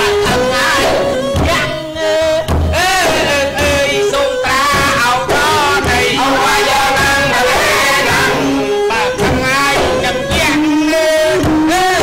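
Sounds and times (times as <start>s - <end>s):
frame drum beats: 0.0s - 12.0s
person singing ornamented line: 0.0s - 12.0s
theatre music ensemble: 0.0s - 12.0s.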